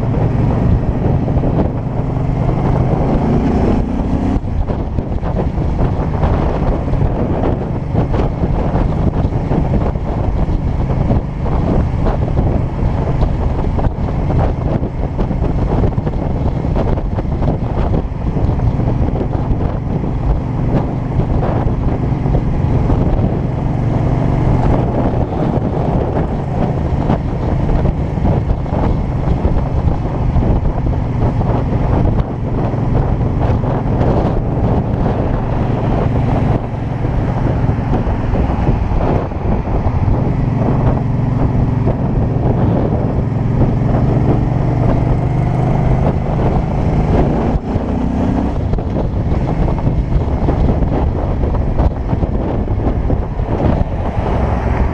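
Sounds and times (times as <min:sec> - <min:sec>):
motorcycle engine cruising: 0:00.0 - 0:54.9
wind buffeting camera: 0:00.0 - 0:54.9.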